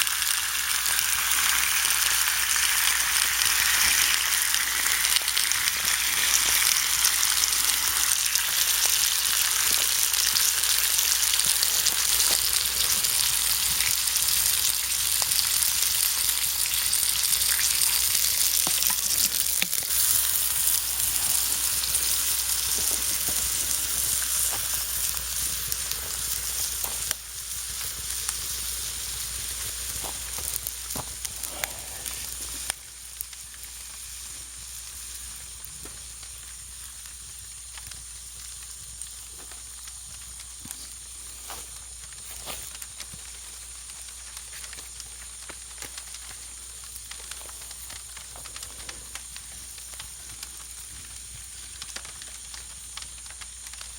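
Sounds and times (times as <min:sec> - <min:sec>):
chicken sizzling in a pan: 0:00.0 - 0:53.9.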